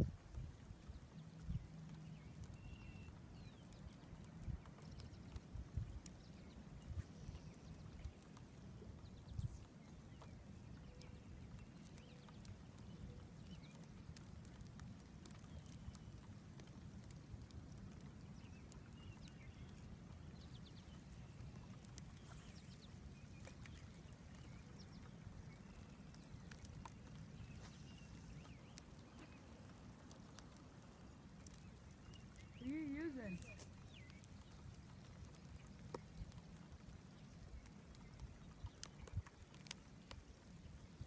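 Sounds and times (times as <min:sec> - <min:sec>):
faint ticks: 0:00.3 - 0:41.0.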